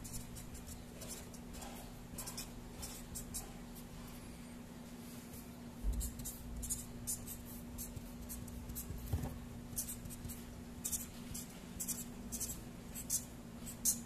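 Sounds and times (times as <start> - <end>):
marker scratching on paper: 0.0 - 3.9, 5.8 - 14.0
faint steady hum: 0.0 - 14.0.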